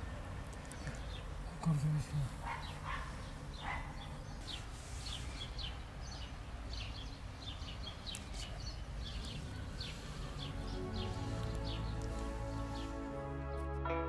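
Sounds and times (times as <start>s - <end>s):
low outdoor background rumble: 0.0s - 13.5s
small birds chirping: 0.4s - 13.6s.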